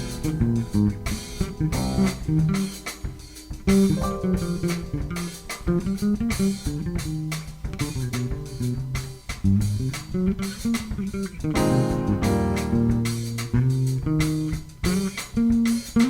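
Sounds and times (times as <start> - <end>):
plucked guitar: 0.0 - 2.9, 3.6 - 16.0
bass guitar: 0.0 - 16.0
drum kit: 0.0 - 16.0.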